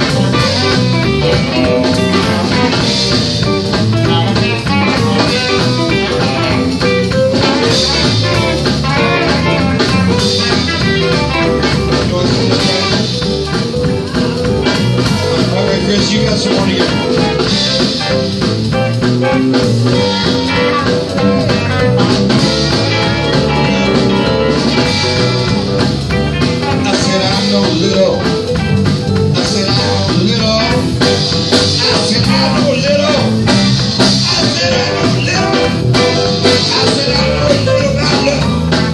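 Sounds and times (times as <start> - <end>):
drum kit: 0.0 - 38.9
electric bass: 0.0 - 38.9
electric guitar: 0.0 - 38.9
keyboard: 0.0 - 38.9.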